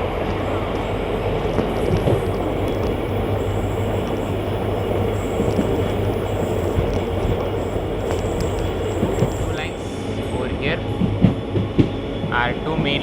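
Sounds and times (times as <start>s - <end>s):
train wheels clicking: 0.0s - 12.0s
train rumbling on track: 0.0s - 13.0s.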